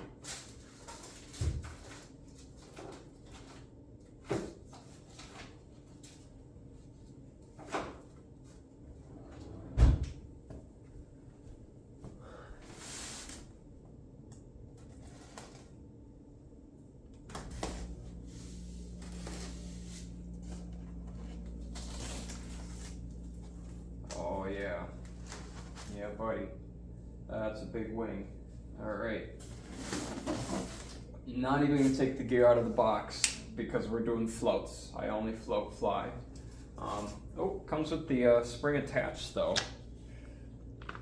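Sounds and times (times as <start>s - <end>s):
steady low hum: 0.1s - 41.0s.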